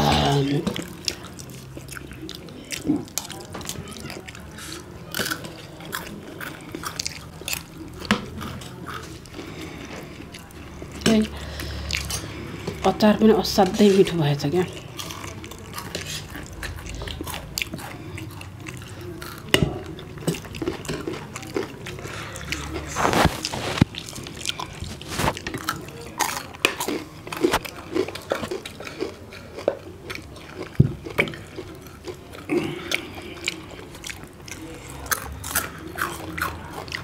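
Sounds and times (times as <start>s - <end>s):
people chewing and biting: 0.0s - 37.0s.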